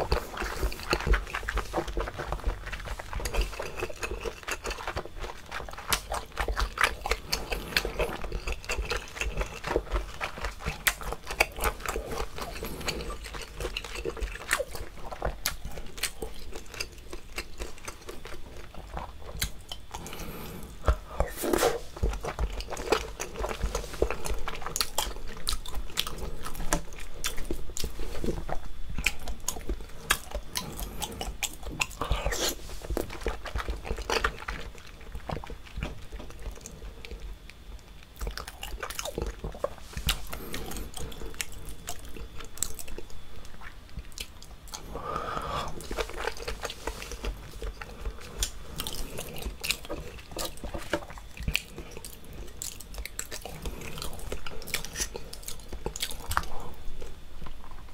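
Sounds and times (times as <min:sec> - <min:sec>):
wet chewing smacks: 0:00.0 - 0:57.9.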